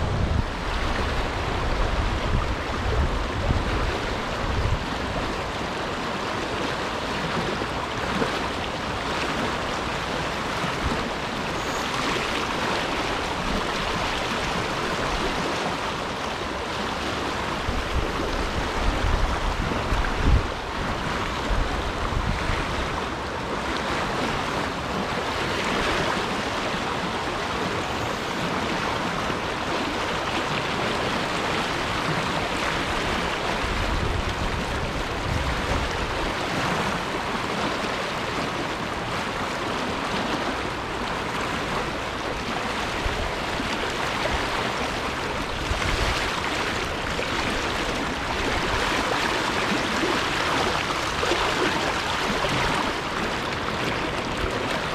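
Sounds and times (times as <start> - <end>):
river water rushing: 0.0 - 54.9
wind rumble on microphone: 0.0 - 54.9.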